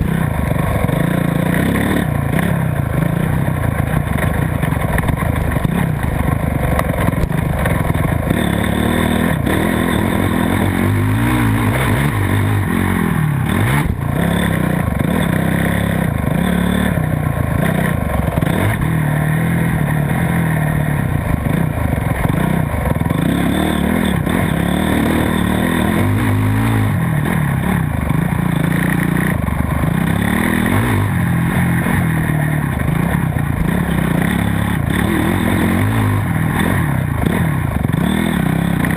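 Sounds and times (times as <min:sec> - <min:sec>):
motocross bike engine revving: 0:00.0 - 0:38.9
steady clatter: 0:00.0 - 0:38.9.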